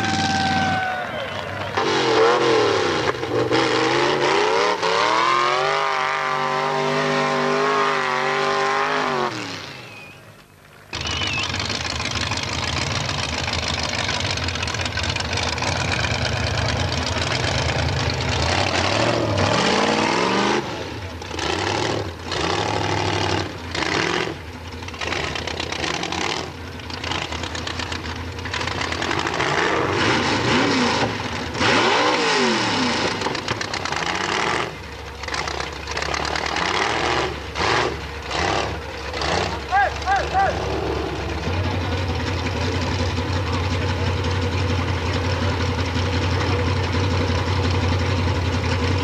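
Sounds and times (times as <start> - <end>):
car engine revving: 0.0 - 10.2, 10.9 - 49.0.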